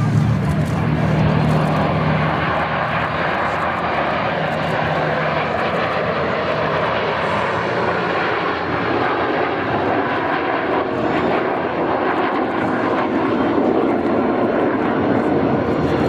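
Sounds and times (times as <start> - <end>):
jets flying past: 0.0 - 16.0.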